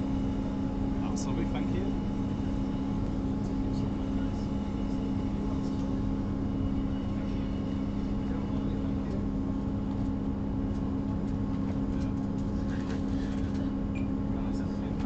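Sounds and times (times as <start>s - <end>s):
train engine hum: 0.0s - 15.0s
train rumble: 0.0s - 15.0s.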